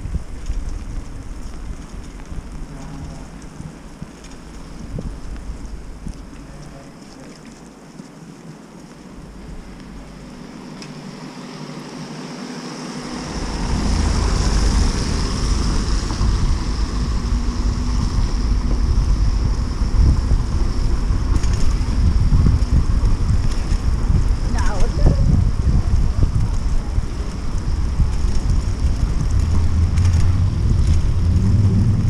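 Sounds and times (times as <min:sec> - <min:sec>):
wind buffeting microphone: 0:00.0 - 0:11.2, 0:12.8 - 0:32.0.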